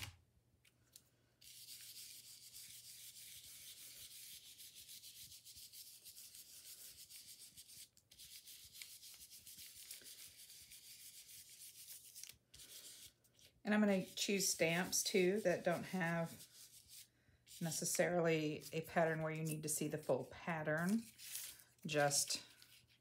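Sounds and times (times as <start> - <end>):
stencil brush scrubbing: 1.4 - 23.0.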